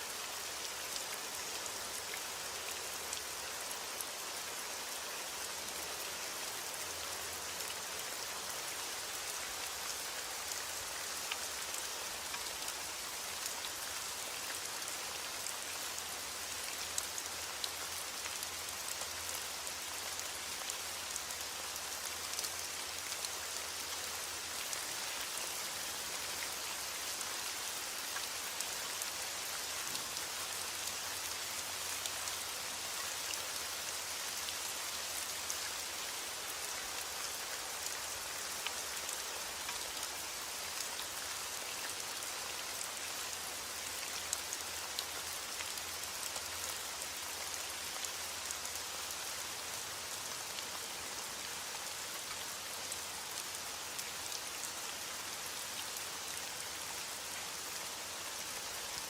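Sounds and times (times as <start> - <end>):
rain pattering: 0.1 - 51.0.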